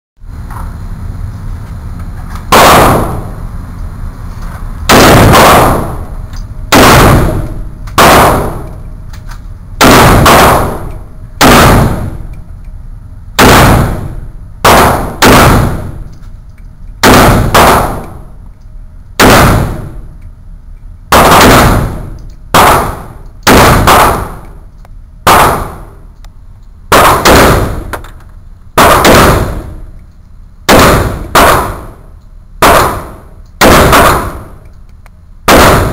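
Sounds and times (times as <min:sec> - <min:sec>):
rifle shots echoing indoors: 0:02.3 - 0:03.6, 0:04.4 - 0:12.5, 0:13.1 - 0:20.3, 0:21.0 - 0:34.8, 0:35.4 - 0:35.9.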